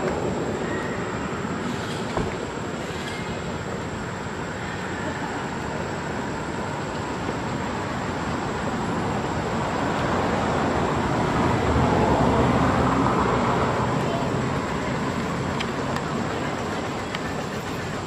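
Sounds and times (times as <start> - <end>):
motor vehicle on road: 0.0 - 18.0.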